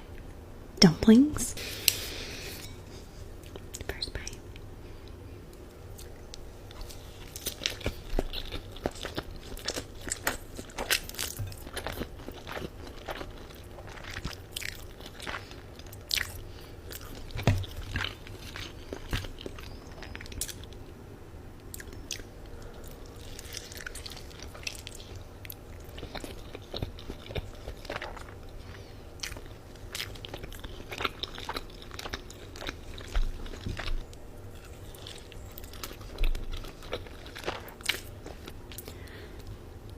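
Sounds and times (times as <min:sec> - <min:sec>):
person chewing food: 0:05.0 - 0:20.9, 0:21.6 - 0:39.9.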